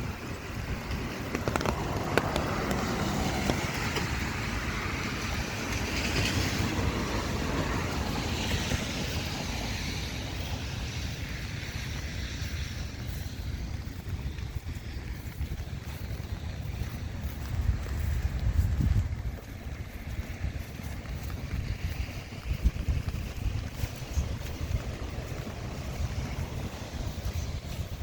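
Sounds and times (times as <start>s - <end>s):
tyres hissing on wet pavement: 0.0s - 28.0s
footsteps tapping: 0.3s - 28.0s.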